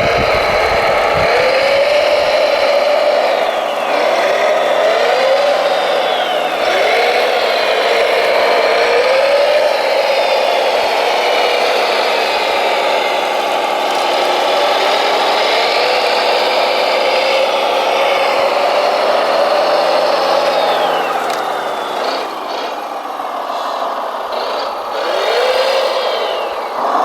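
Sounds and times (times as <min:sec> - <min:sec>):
model machine motor hum: 0:00.0 - 0:27.0.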